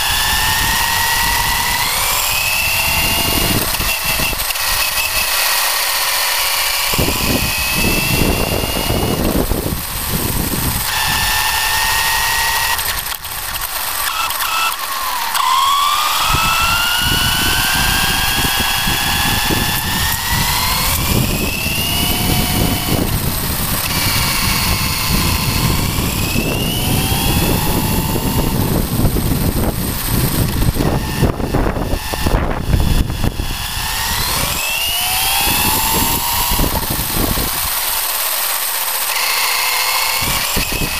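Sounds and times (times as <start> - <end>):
electric motor whining: 0.0 - 40.9
tyres and chassis rattling: 0.0 - 40.9.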